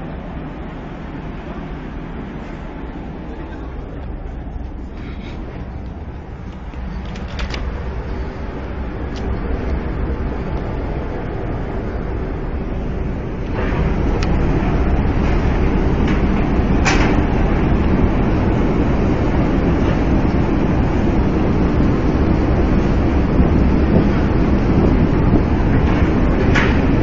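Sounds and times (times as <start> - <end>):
heavy ship machinery rumble: 0.0 - 27.0.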